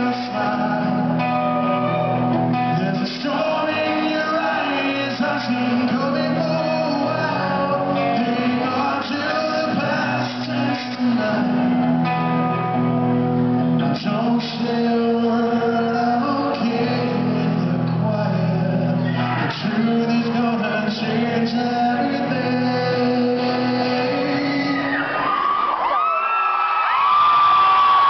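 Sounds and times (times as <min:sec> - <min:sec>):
man singing: 0:00.0 - 0:12.9, 0:13.6 - 0:25.4
guitar: 0:00.0 - 0:28.0.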